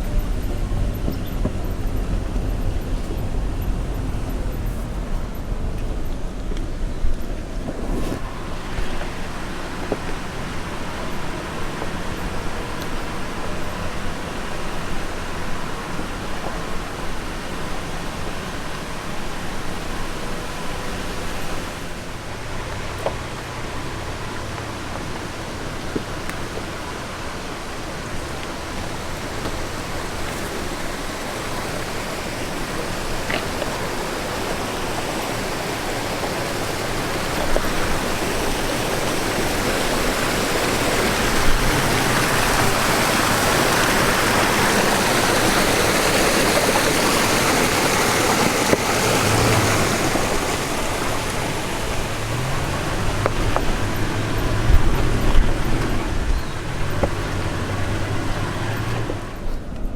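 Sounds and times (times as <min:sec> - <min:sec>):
creek water flowing: 0:00.0 - 0:59.9
vehicle engine running low: 0:00.0 - 0:59.9.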